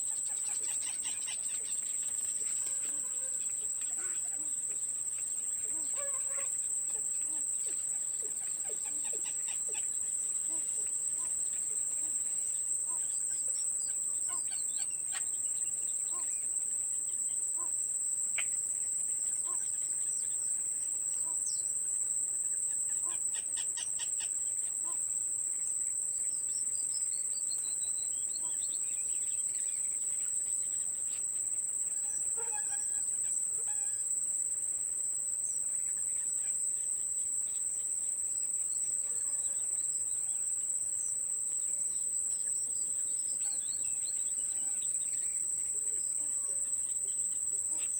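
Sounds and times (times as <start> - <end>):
insects droning: 0.0 - 47.9.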